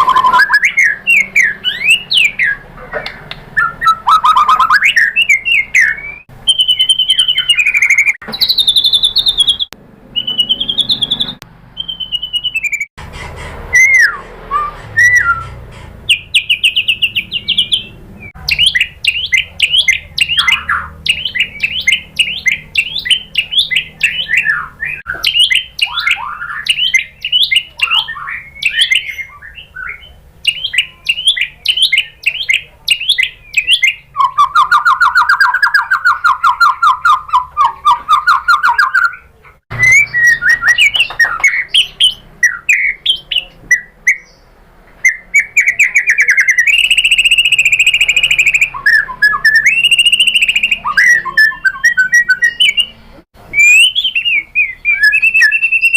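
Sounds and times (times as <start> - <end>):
bird singing whistled phrases: 0.0 - 2.6, 3.6 - 12.9, 13.7 - 15.5, 16.1 - 44.4, 45.0 - 55.9.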